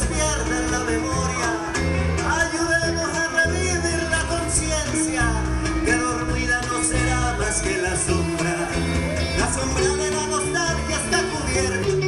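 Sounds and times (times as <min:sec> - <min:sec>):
latin-style band playing: 0:00.0 - 0:12.0.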